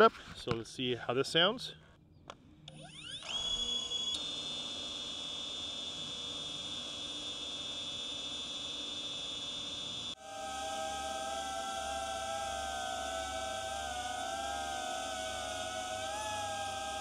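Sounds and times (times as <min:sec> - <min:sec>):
drone motors whining: 0:02.7 - 0:17.0.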